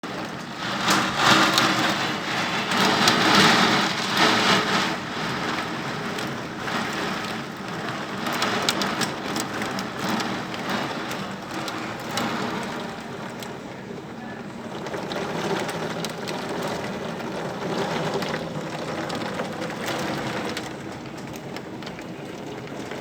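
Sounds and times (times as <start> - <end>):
heavy rain on pavement: 0.0 - 23.0.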